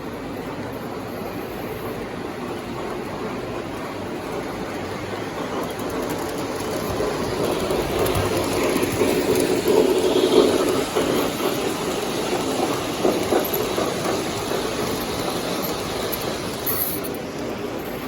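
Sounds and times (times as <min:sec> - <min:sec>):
model train rumbling on track: 0:00.0 - 0:18.0.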